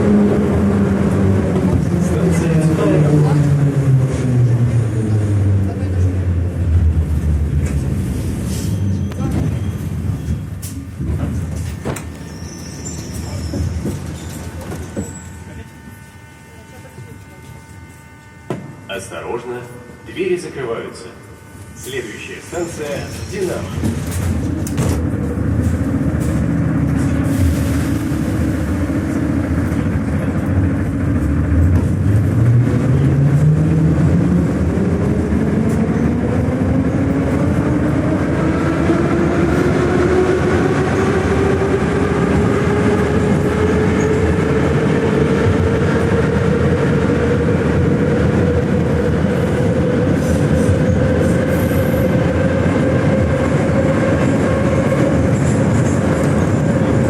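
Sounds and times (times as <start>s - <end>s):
train traction motors whining: 0.0s - 57.0s
wheels rumbling on rail: 0.0s - 57.0s.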